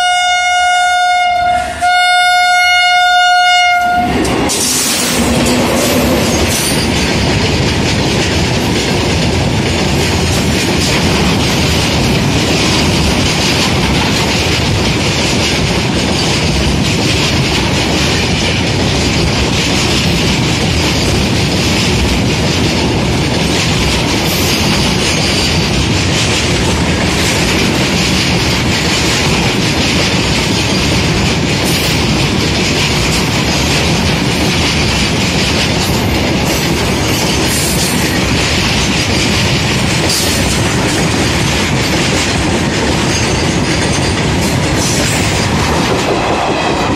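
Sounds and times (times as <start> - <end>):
train wheels clattering over rails: 3.8 - 46.9.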